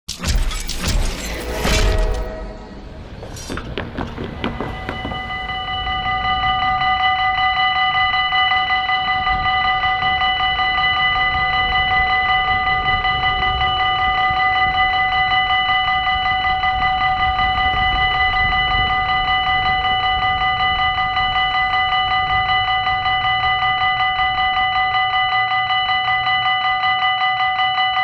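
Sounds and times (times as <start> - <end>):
level-crossing warning bell ringing: 0.2 - 28.0.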